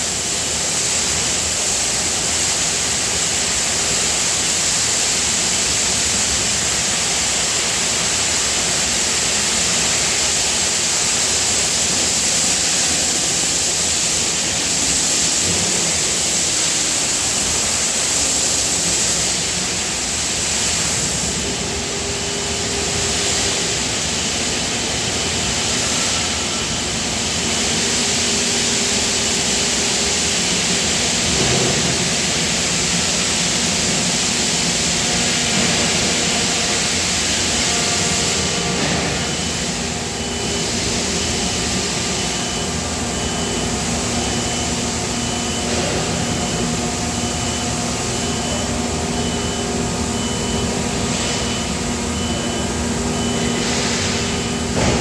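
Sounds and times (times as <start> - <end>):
machinery hiss and hum: 0.0 - 55.0.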